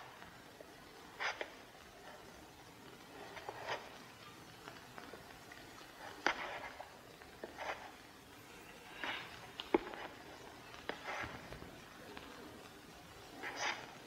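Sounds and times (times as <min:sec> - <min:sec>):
footsteps: 0:00.0 - 0:14.0.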